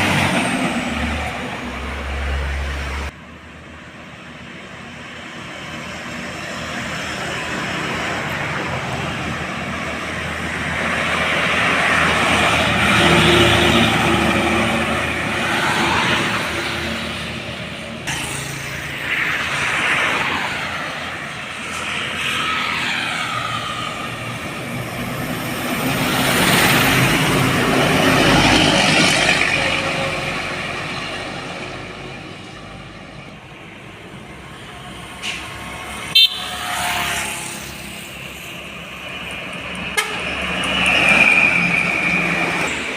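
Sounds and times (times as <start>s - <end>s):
heavy trucks driving past: 0.0s - 42.9s.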